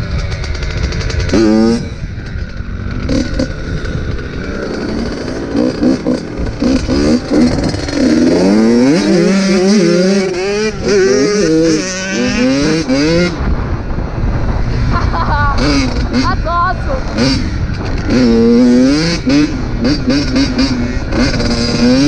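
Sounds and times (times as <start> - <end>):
dirt bike engine revving: 0.0 - 22.0
wind rumble on microphone: 0.0 - 22.0.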